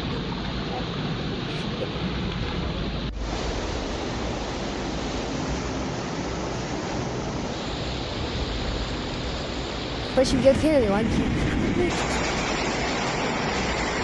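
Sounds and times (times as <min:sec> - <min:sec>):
floodwater roaring: 0:00.0 - 0:14.0.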